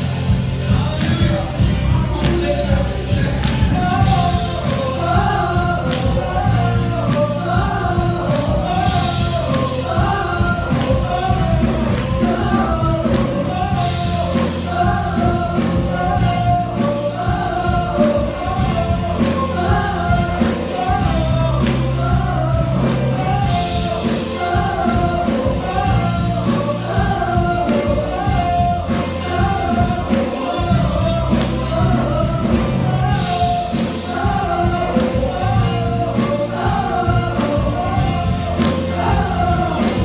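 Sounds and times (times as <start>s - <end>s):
band with bass and drums: 0.0s - 40.0s
choir singing gospel: 0.0s - 40.0s.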